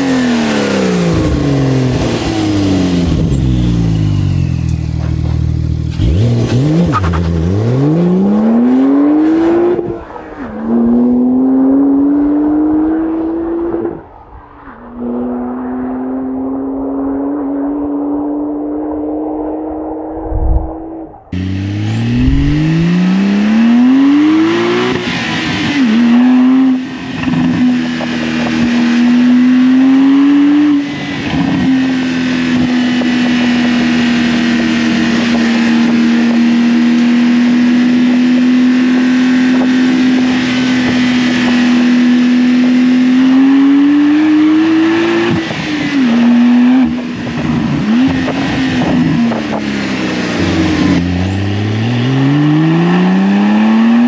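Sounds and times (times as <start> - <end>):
sports car engine accelerating: 0.0 - 54.0.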